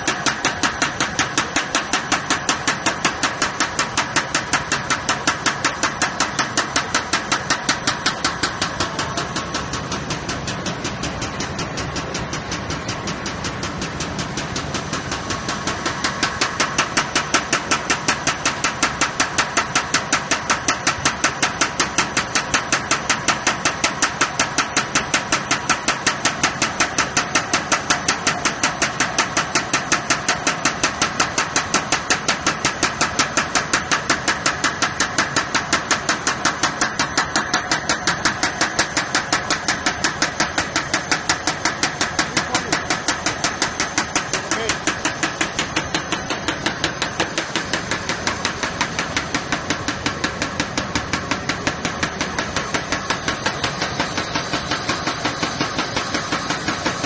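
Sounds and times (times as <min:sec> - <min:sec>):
machine running: 0:00.0 - 0:57.0.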